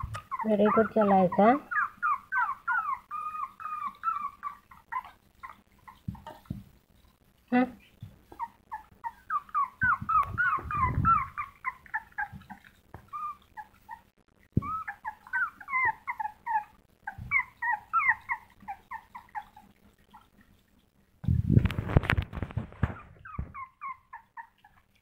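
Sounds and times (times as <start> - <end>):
puppies whimpering: 0.0 - 6.5, 7.8 - 20.3, 22.8 - 25.0.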